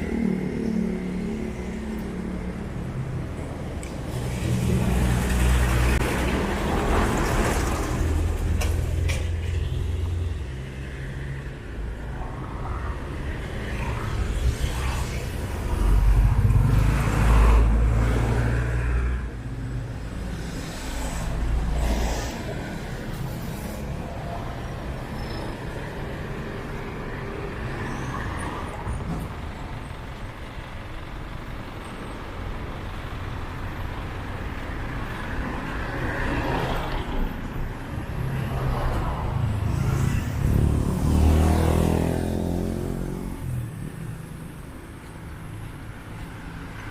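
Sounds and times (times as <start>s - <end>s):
cars driving past: 0.0s - 46.9s.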